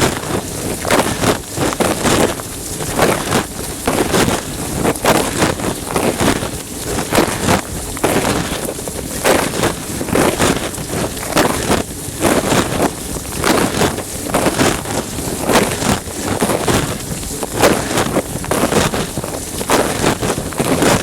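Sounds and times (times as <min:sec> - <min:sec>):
dishwasher water spray sloshing: 0:00.0 - 0:21.0.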